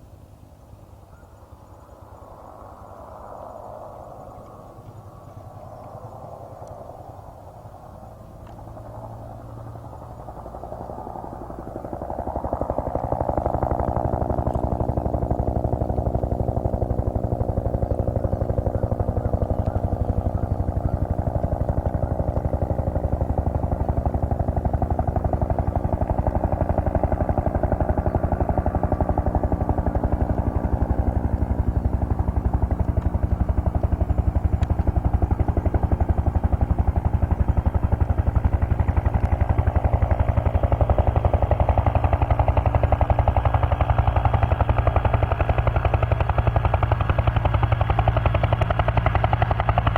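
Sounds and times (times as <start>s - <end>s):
helicopter turbine whining: 0.0s - 49.9s
helicopter rotor beating: 4.8s - 49.9s.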